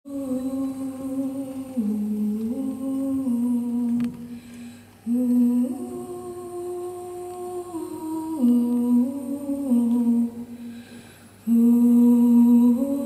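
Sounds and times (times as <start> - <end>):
person humming slow melody: 0.1 - 4.4, 5.0 - 10.8, 11.4 - 13.0.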